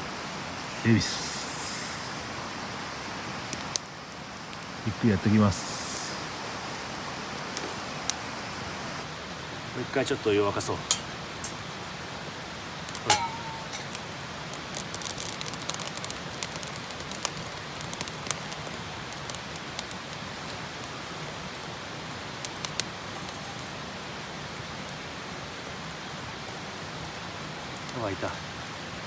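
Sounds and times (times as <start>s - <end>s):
wood fire crackling and hissing: 0.0s - 29.0s.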